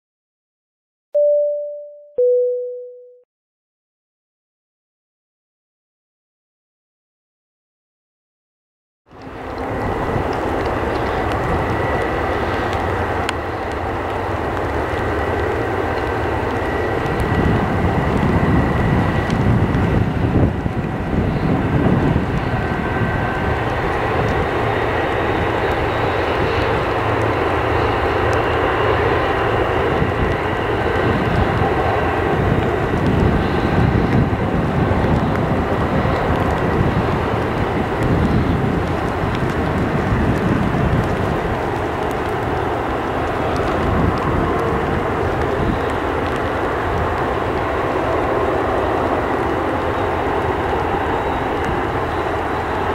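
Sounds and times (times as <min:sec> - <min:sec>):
deep engine rumble: 0:09.1 - 0:52.8
jet engines roaring: 0:09.2 - 0:52.9.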